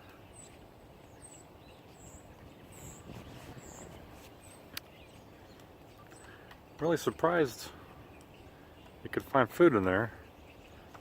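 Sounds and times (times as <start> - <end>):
faint high bird chirps: 0.0 - 11.0.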